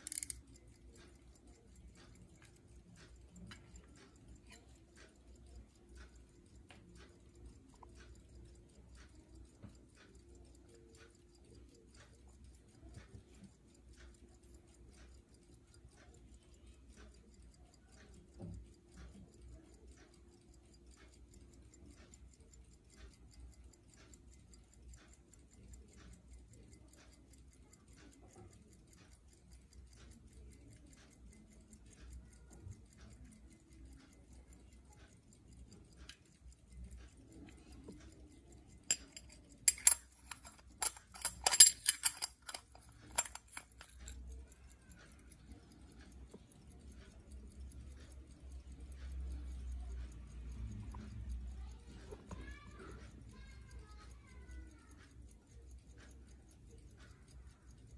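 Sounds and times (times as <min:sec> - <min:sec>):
pocket watch ticking: 0:00.0 - 0:57.9.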